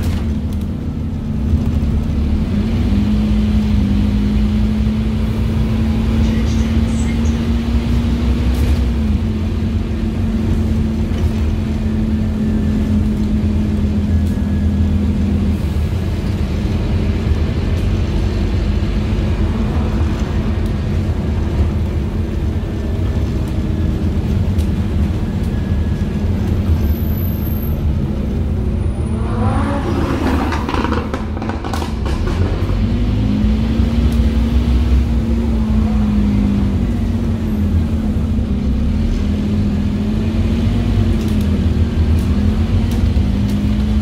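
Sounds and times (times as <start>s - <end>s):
bus engine rumble: 0.0s - 44.0s.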